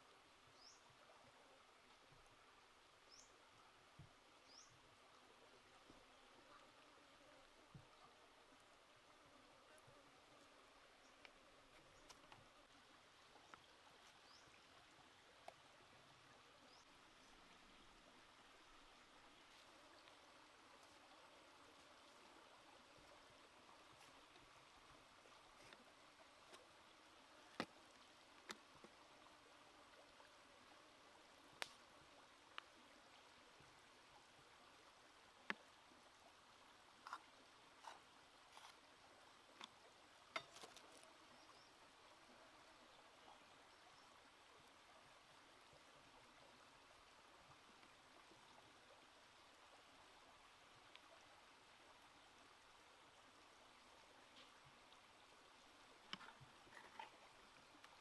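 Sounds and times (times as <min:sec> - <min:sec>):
faint steady hiss: 0:00.0 - 0:58.0.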